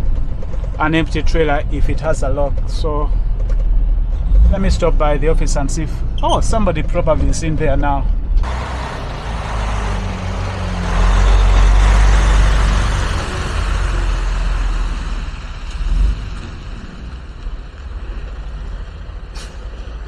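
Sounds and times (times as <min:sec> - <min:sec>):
truck engine rumble: 0:00.0 - 0:20.0.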